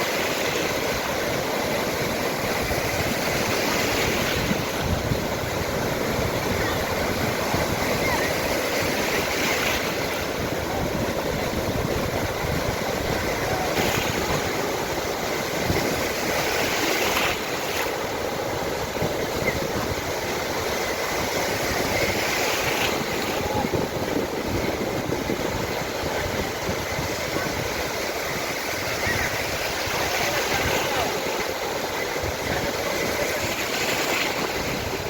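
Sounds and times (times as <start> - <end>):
sea waves breaking: 0.0 - 35.0.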